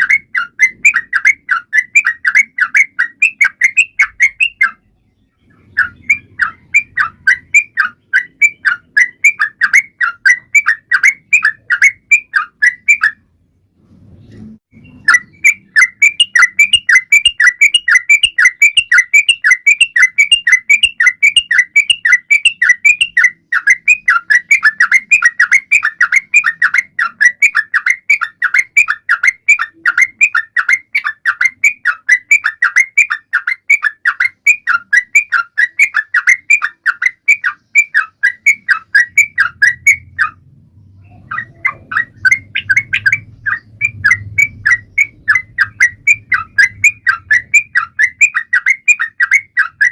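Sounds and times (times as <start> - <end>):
bird chirping repeatedly: 0.0 - 49.9.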